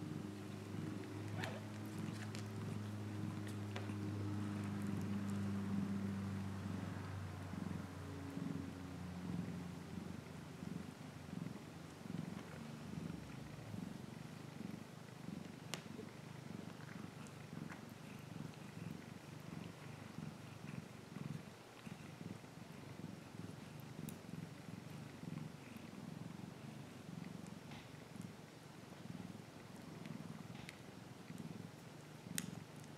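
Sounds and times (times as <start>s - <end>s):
cat purring: 0.0s - 32.9s.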